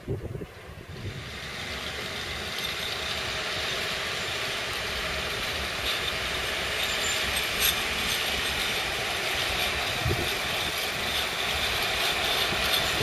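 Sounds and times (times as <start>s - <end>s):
freight train passing: 0.0s - 13.0s.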